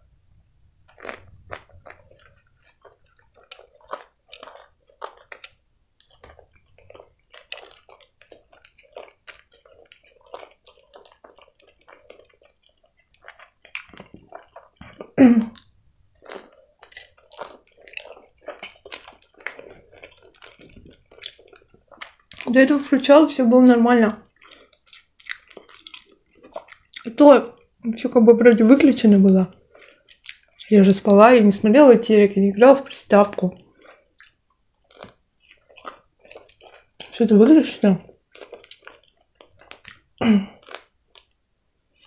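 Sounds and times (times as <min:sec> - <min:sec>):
mouth chewing clicks and smacks: 0:00.9 - 0:22.5, 0:24.2 - 0:27.7, 0:29.3 - 0:30.8, 0:33.3 - 0:37.2, 0:38.0 - 0:41.4.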